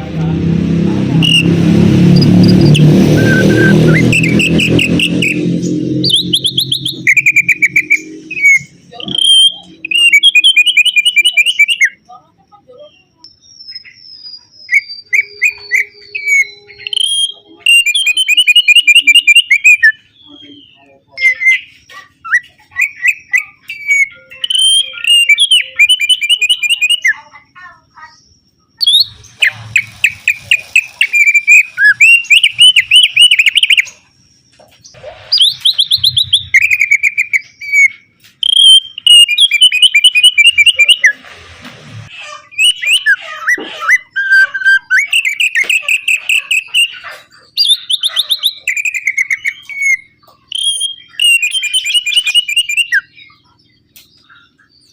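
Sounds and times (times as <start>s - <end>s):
bird singing trilled phrases: 2.2s - 41.2s, 42.2s - 54.9s.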